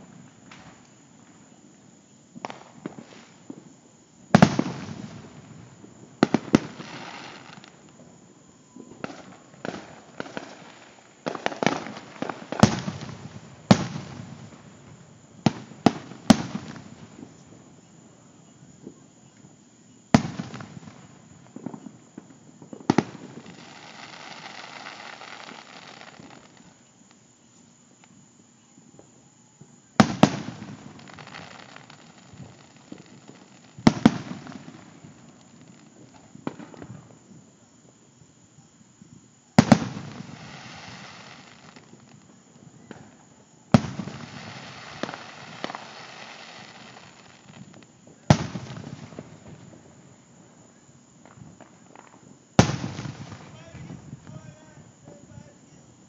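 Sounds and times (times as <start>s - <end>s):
fireworks booming: 0.0s - 56.0s
fireworks crackling: 0.0s - 56.0s.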